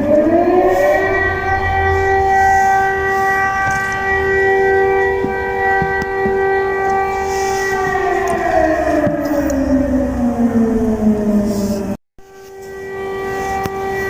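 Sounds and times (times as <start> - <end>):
loud siren: 0.0 - 14.0.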